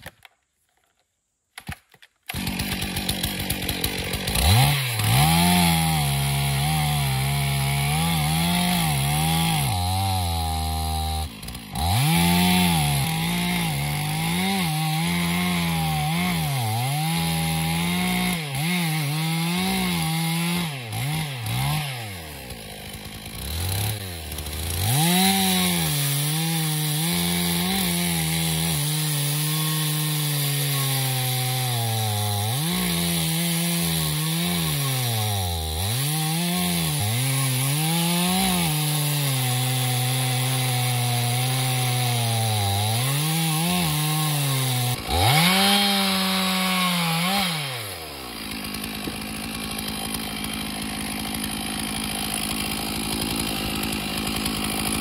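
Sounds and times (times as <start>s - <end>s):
chainsaw cutting timber: 1.6s - 55.0s.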